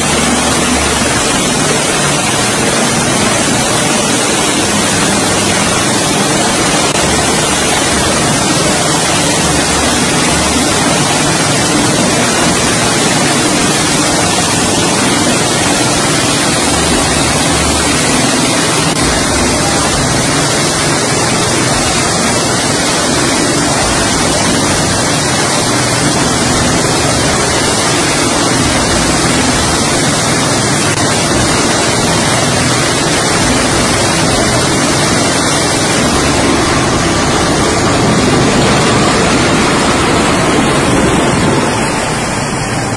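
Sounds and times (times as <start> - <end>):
aircraft engines and rotors rushing: 0.0 - 42.9
low pulsing: 0.0 - 42.9.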